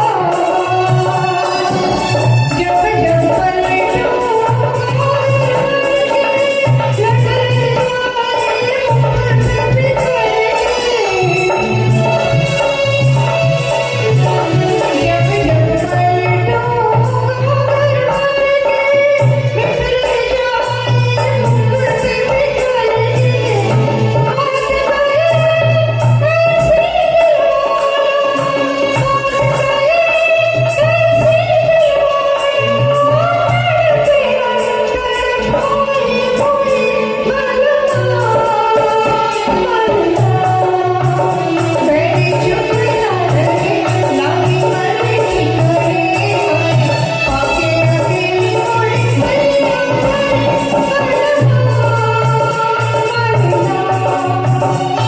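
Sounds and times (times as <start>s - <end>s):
bass and drum backing track: 0.0s - 55.0s
woman singing: 0.0s - 55.0s.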